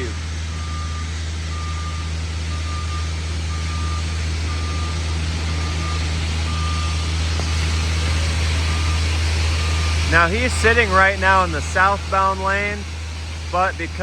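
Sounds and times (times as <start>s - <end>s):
diesel engine running: 0.0s - 14.0s
truck backup alarm beeping: 0.0s - 14.0s.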